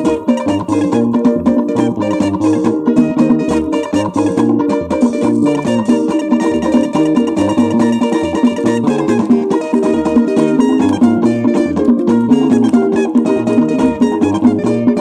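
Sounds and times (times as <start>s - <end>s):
highlife band music: 0.0s - 15.0s.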